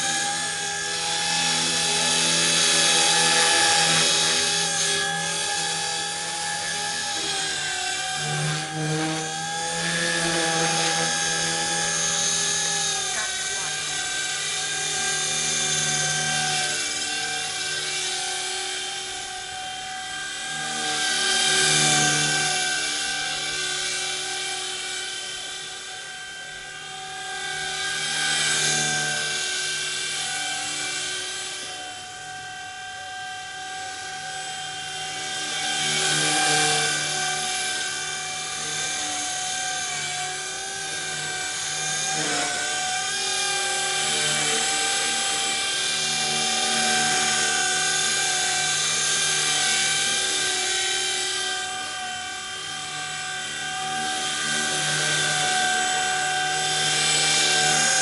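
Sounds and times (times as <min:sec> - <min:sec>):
rc helicopter rotors whining: 0:00.0 - 0:58.0.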